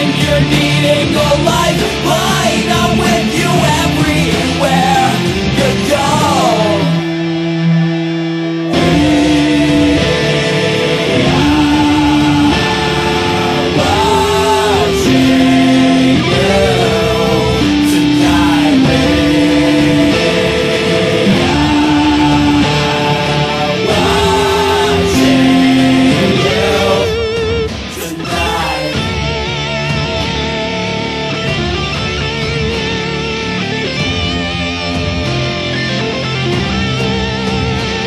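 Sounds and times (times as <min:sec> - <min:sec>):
drums: 0:00.0 - 0:38.0
rock music with guitar: 0:00.0 - 0:38.0.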